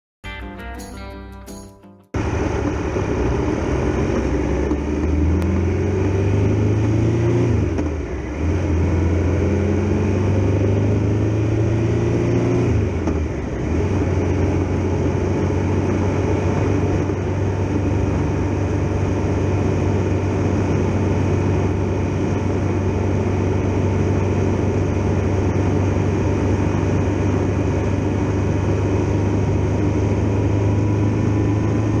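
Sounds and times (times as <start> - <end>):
motorcycle engine accelerating: 2.2 - 32.0.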